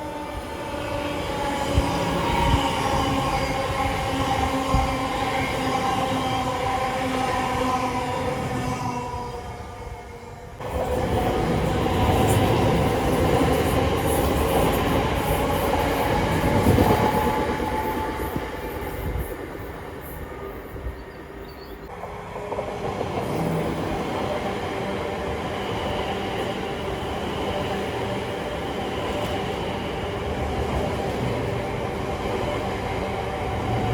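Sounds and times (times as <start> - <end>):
train multi-pitched whine: 0.0 - 33.9
wheel and rail rushing noise: 0.0 - 33.9.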